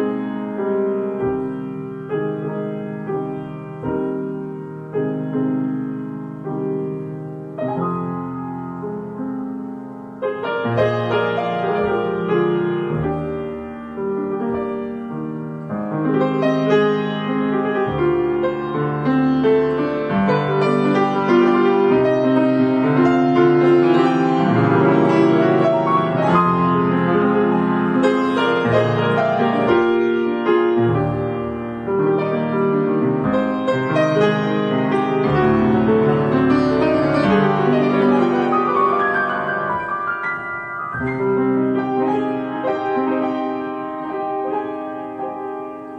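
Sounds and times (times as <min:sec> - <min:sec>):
solo grand piano: 0:00.0 - 0:45.9.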